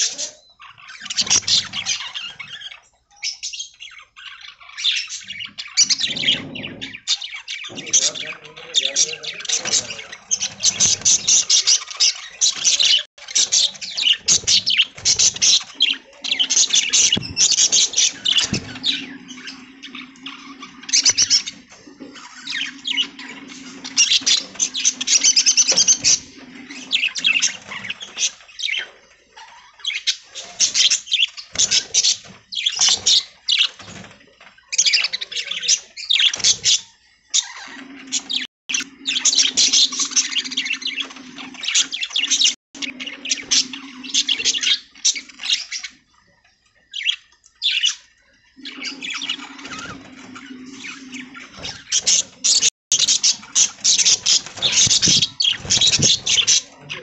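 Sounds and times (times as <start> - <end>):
budgies chattering and warbling: 0.0 - 57.0.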